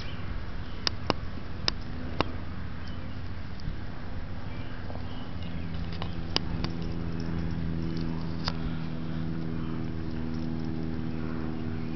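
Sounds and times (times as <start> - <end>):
steady engine drone: 0.0 - 11.9.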